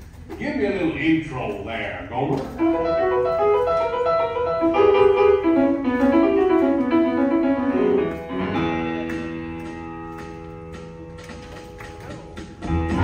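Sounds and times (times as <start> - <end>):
piano music: 2.5 - 13.0.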